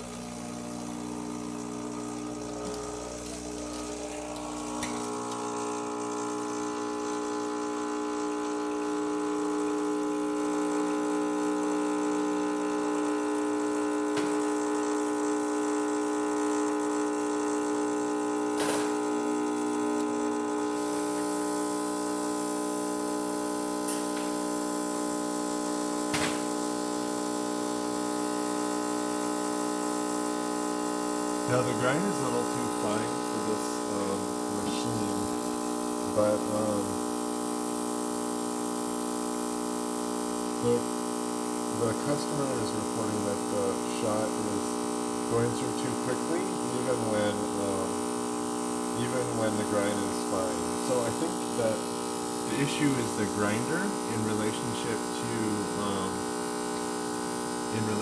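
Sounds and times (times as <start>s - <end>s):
espresso machine pump buzzing: 0.0s - 58.0s.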